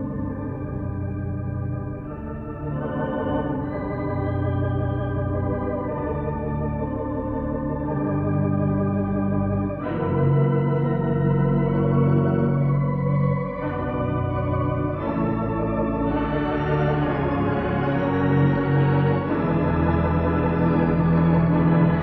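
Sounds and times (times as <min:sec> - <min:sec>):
pipe organ playing chords: 0:00.0 - 0:22.0.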